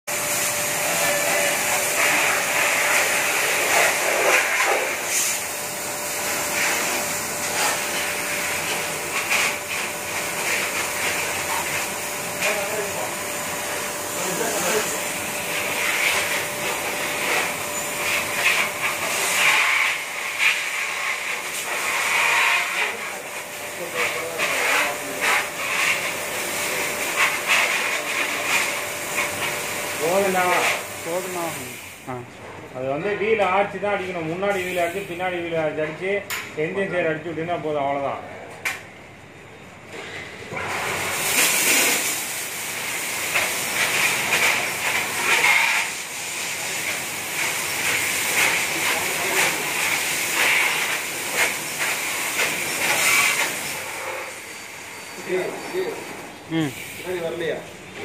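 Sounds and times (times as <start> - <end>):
water jets hissing: 0.1 - 32.0, 40.6 - 57.6.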